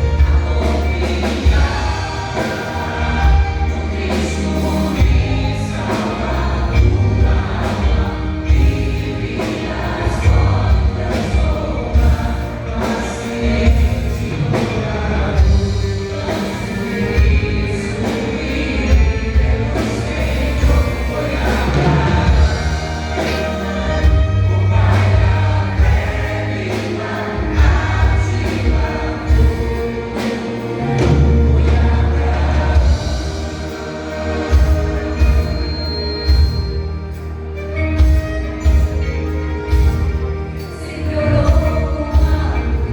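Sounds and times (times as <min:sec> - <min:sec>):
bass line: 0:00.0 - 0:37.5
drum beats: 0:00.0 - 0:40.8
vocal group singing gospel: 0:00.0 - 0:42.9.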